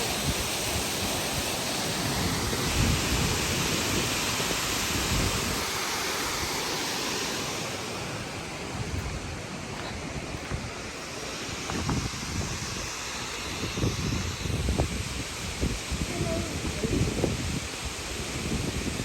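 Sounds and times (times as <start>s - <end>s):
waterfall roaring: 0.0s - 19.0s
wind buffeting microphone: 0.0s - 19.0s.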